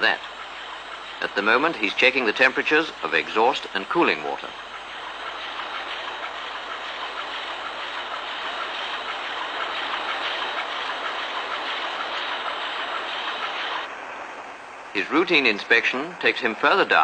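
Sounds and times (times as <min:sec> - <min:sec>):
diesel engine clattering: 0:00.0 - 0:13.9.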